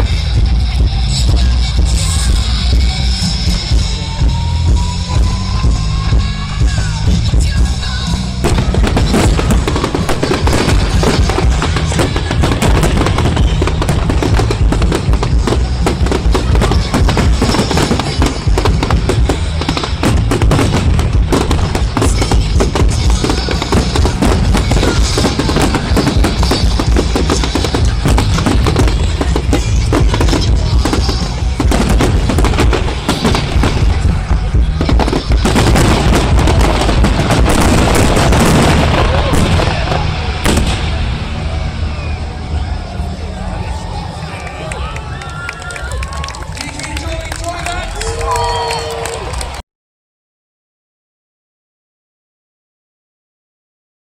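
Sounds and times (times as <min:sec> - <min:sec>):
deep low rumble: 0:00.0 - 0:46.7
crowd voices: 0:00.0 - 0:49.6
fireworks cracks and bangs: 0:00.0 - 0:49.6
music playing: 0:00.0 - 0:49.6.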